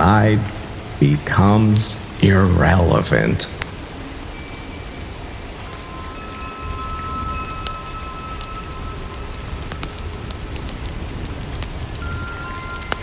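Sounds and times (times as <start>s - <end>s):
long steady tones: 0.0s - 13.0s
sharp drips: 0.0s - 13.0s
steady rain: 0.0s - 13.0s.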